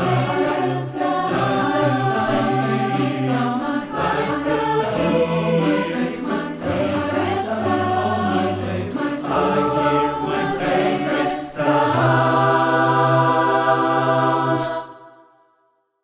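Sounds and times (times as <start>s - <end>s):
mixed choir singing: 0.0s - 15.5s.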